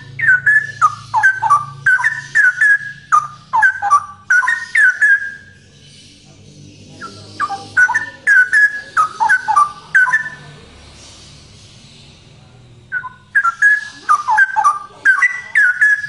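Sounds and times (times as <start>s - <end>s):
bird singing whistled notes: 0.0s - 12.3s, 12.9s - 16.0s.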